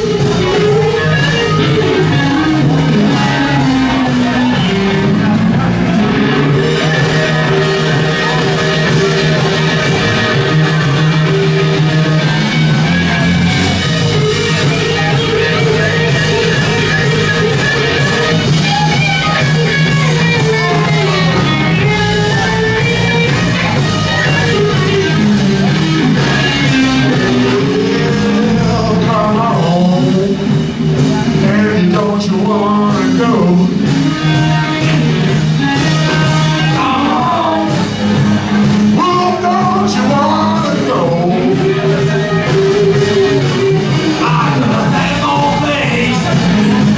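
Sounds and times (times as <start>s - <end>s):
electric guitar lead: 0.0s - 46.9s
live rock band: 0.0s - 46.9s.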